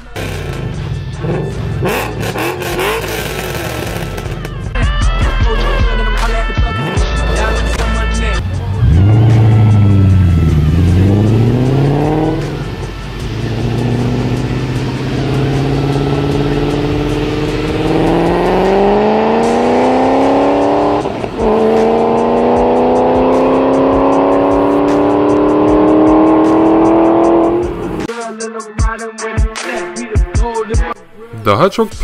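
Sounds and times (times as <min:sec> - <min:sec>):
car engine accelerating hard: 0:00.0 - 0:04.8, 0:06.7 - 0:28.1.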